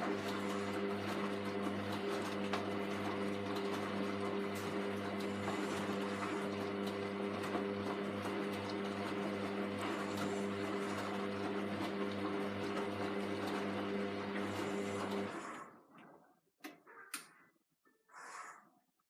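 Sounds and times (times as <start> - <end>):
washing machine motor hum: 0.0 - 16.7.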